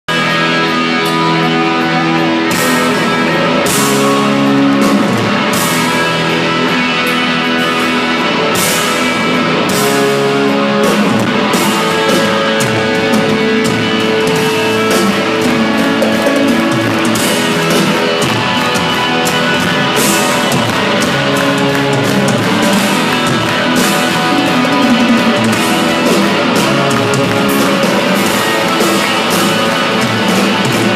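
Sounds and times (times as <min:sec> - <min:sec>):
rock band playing live: 0:00.1 - 0:30.9.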